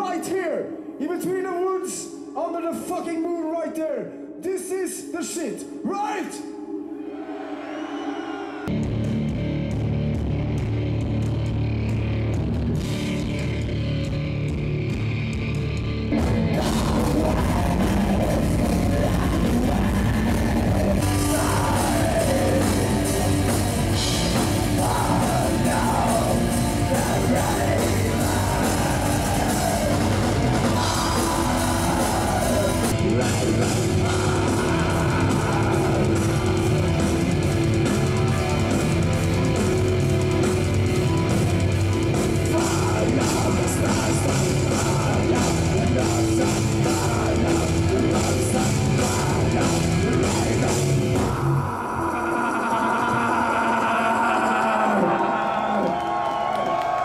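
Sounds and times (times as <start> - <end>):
heavy metal music: 0.0 - 55.8.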